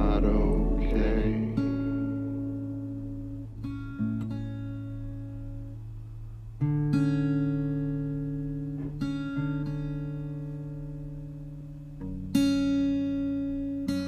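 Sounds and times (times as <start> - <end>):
acoustic guitar chords ringing: 0.0 - 14.0.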